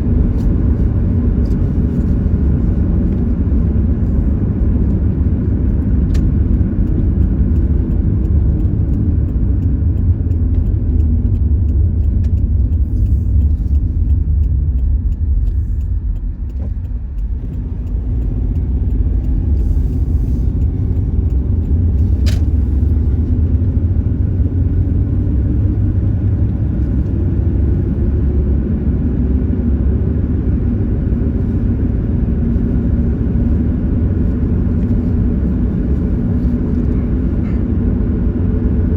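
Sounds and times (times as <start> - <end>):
road and engine noise inside car: 0.0 - 38.9.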